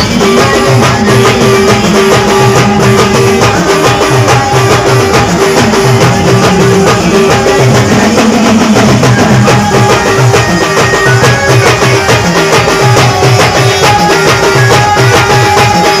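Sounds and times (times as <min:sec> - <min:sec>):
driving drums: 0:00.0 - 0:16.0
live band dance music: 0:00.0 - 0:16.0.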